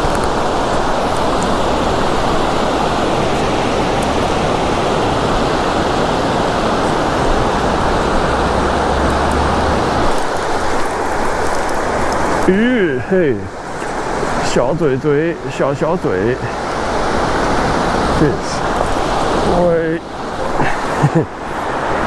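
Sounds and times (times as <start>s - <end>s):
fast-flowing river water: 0.0s - 22.0s.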